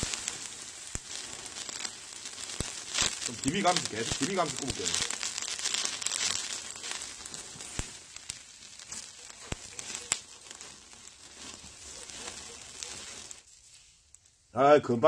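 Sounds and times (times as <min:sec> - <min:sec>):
sharp pops: 0:00.0 - 0:14.4
ribs sizzling on a grill: 0:00.0 - 0:14.6
wood fire crackling: 0:00.0 - 0:14.6.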